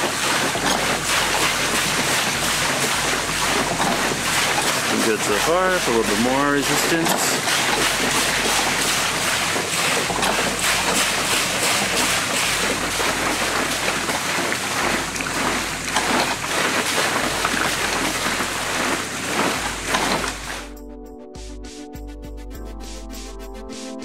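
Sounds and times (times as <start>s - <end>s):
rushing water: 0.0s - 20.7s.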